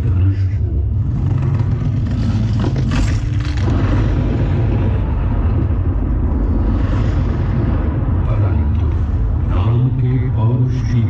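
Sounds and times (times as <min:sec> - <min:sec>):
deep rumbling soundtrack over loudspeakers: 0:00.0 - 0:11.0.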